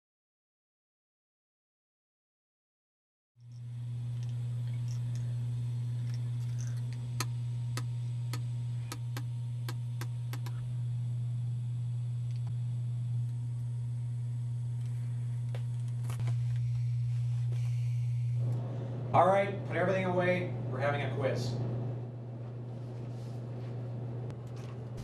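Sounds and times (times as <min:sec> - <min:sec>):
steady low hum: 0:03.4 - 0:25.0.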